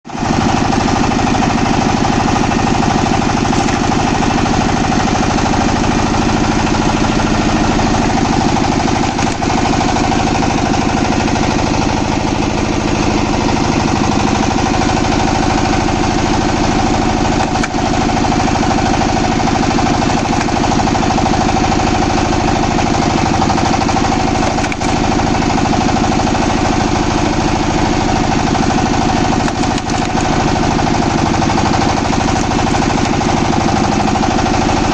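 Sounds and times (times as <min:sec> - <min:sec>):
wood-cutting machine rattling: 0:00.1 - 0:34.9.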